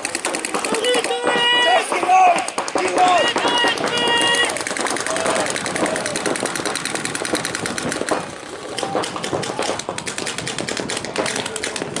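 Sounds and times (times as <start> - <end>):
paintball markers firing: 0.0 - 12.0.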